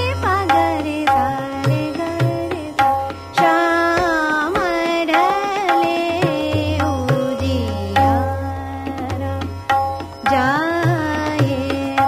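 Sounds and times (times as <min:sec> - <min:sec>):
tabla: 0:00.0 - 0:12.0.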